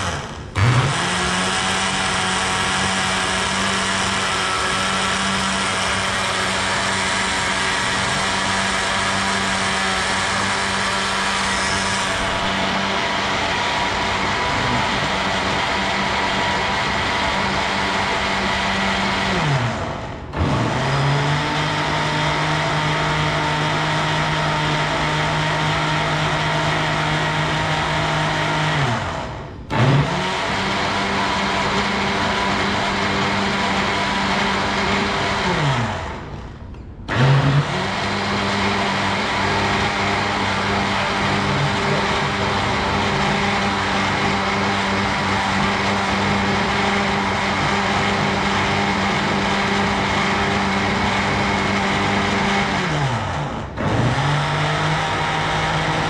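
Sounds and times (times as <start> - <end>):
blender motor running: 0.0 - 36.4, 37.1 - 56.0.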